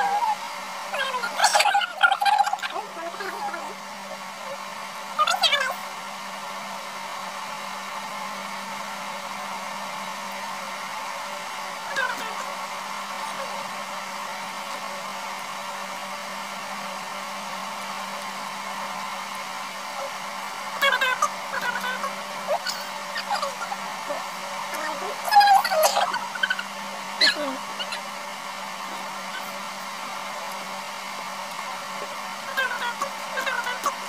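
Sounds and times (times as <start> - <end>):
machine hiss with low hum: 0.0 - 34.0.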